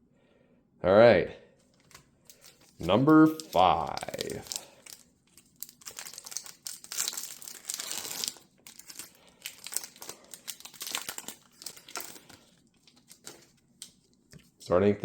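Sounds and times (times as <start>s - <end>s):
wrapper tearing and crinkling: 1.8s - 14.0s.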